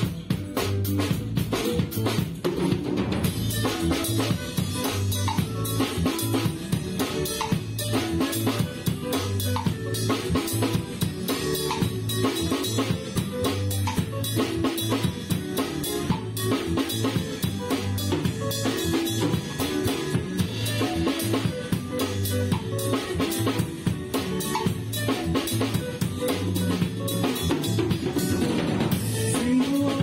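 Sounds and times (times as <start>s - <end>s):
backing music with bass line: 0.0s - 30.0s
drum kit playing groove: 0.0s - 30.0s.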